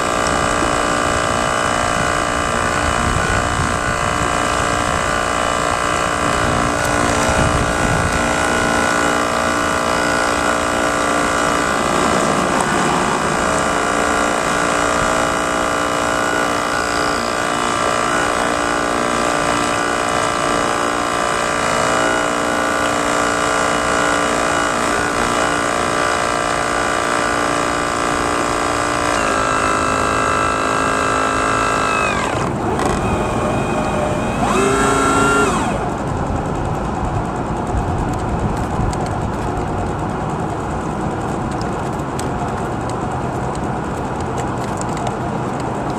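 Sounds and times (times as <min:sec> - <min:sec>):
model boat motor whining: 0:00.0 - 0:45.9.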